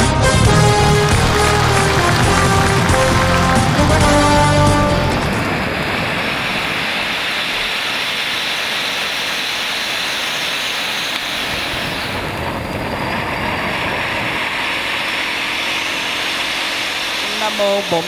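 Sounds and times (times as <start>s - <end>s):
spark fountains hissing: 0.3s - 18.0s.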